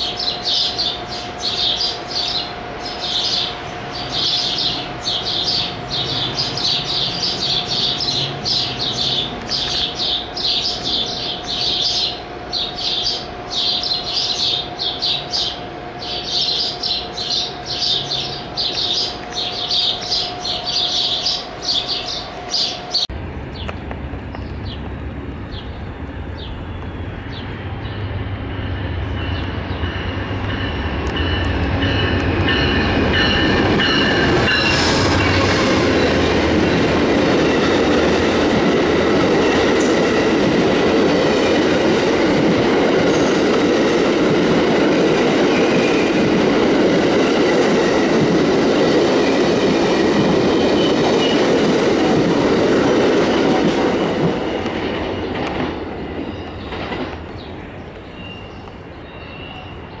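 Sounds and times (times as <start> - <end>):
locomotive engine hum: 0.0 - 59.0
train wheels rushing on rails: 0.0 - 60.0.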